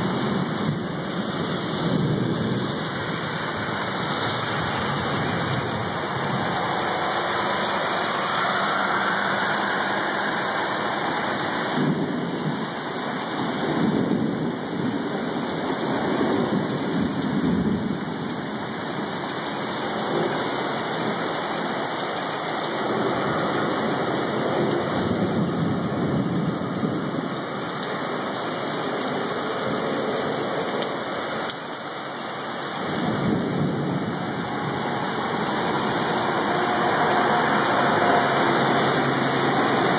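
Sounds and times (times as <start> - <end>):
thunder rumbling: 0.0 - 31.0, 32.3 - 39.9
heavy rain pouring: 0.0 - 39.9.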